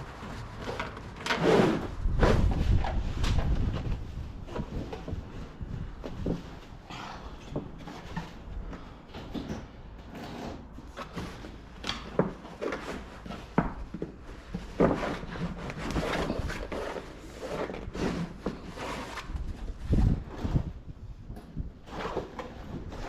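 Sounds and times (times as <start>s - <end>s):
canvas scraping along metal channel: 0.0s - 9.0s, 9.6s - 11.8s, 12.4s - 23.0s.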